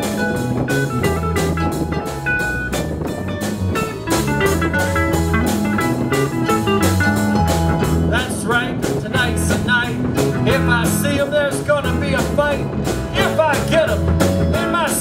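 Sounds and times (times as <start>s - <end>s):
bass guitar: 0.0s - 15.0s
drum kit beat: 0.0s - 15.0s
electric guitar: 0.0s - 15.0s
lead guitar with bending notes: 0.0s - 15.0s.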